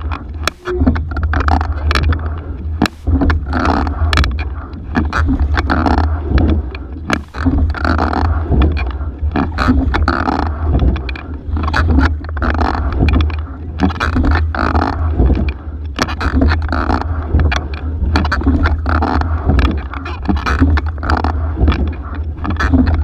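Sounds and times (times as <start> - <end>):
low rumble: 0.0 - 23.0
oars rowing in water: 0.0 - 23.0.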